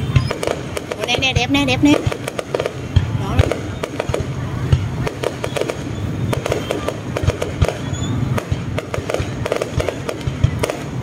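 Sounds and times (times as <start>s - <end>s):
firework bangs and crackles: 0.0s - 11.0s.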